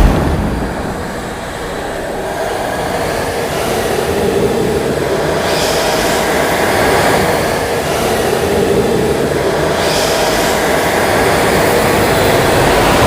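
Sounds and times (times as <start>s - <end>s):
high hiss: 0.0s - 13.0s
rushing rumble: 0.0s - 13.0s.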